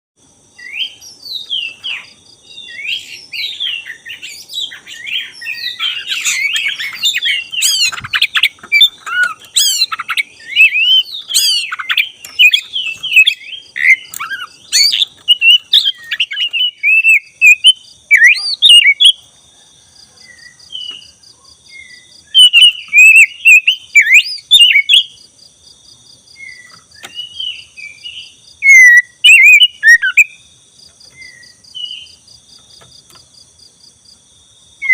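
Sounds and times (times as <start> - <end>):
bird singing whistles and trills: 0.5 - 19.2, 20.2 - 25.2, 26.4 - 30.5, 31.1 - 32.2.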